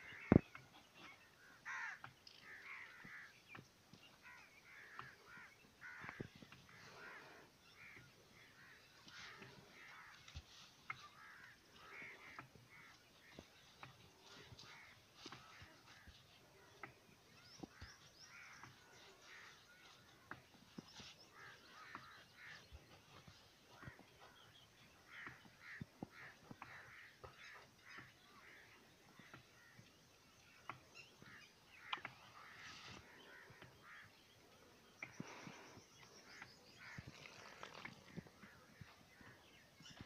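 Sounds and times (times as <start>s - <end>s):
faint birds chirping: 0.0s - 40.0s.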